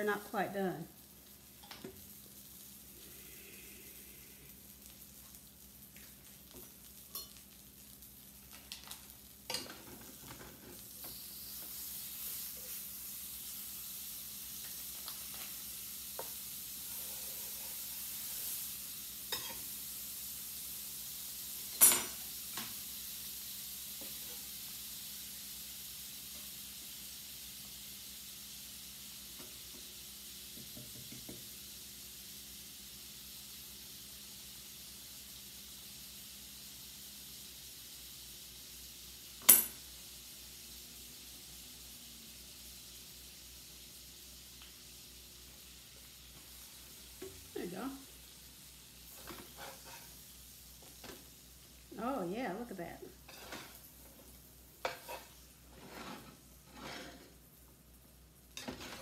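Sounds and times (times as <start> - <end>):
butter sizzling in a skillet: 0.0 - 59.0.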